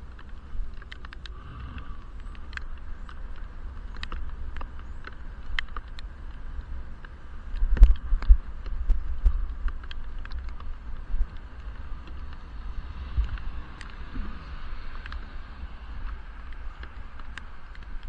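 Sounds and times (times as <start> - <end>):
light ticks: 0.0 - 18.0
muffled wind rumble: 0.0 - 18.0.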